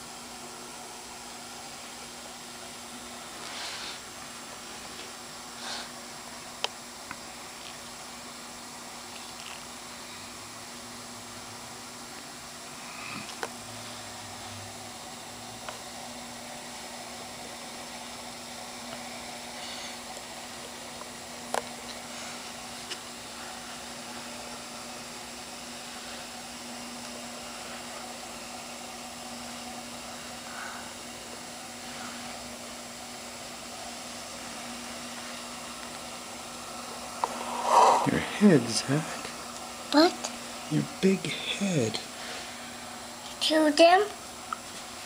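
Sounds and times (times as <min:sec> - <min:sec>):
aquarium pump hum and hiss: 0:00.0 - 0:45.0.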